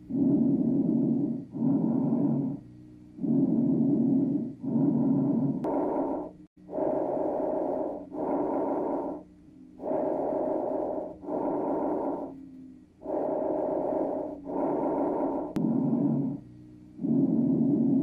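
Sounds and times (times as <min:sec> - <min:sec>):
heavy rasping breathing: 0:00.0 - 0:18.0.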